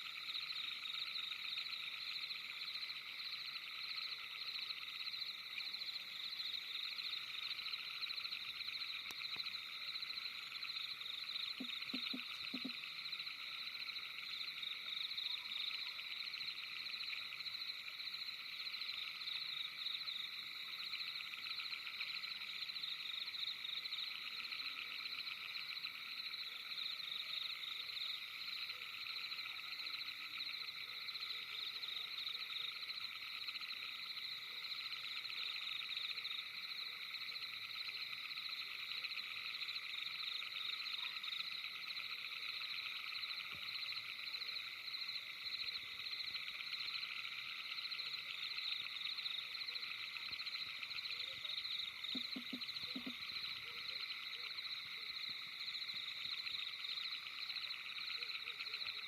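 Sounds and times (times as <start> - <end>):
frogs trilling: 0.0 - 59.0.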